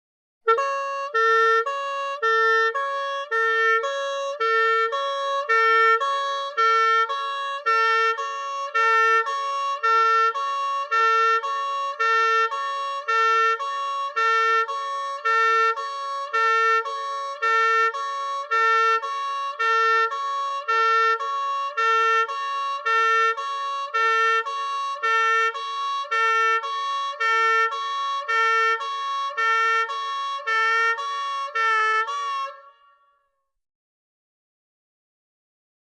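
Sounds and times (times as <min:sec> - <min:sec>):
two-tone hi-lo siren: 0:00.4 - 0:33.4.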